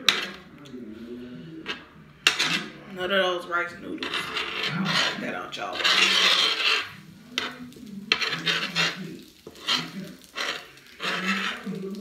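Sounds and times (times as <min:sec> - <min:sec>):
metal fork scraping griddle: 0:00.0 - 0:00.5, 0:01.6 - 0:02.8, 0:03.9 - 0:12.0.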